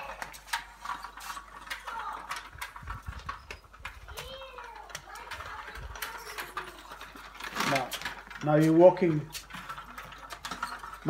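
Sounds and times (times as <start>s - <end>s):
small bicycle rattling on paving: 0.0s - 11.0s.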